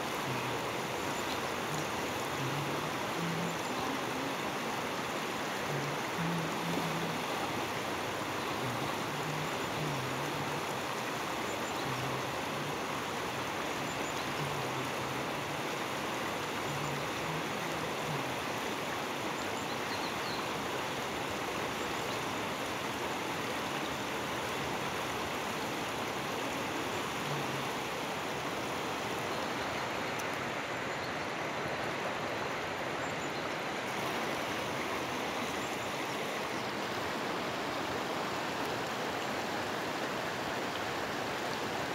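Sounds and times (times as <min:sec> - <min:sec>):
river running over rocks: 0:00.0 - 0:41.9.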